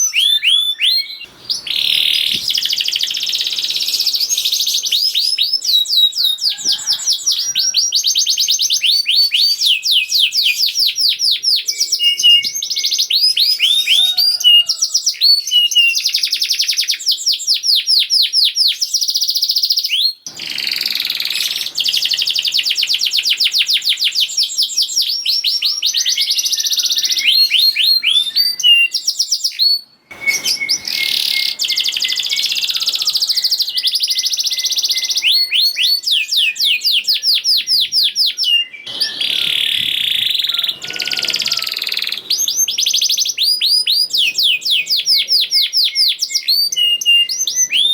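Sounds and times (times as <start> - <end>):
canary singing: 0.0 - 47.9.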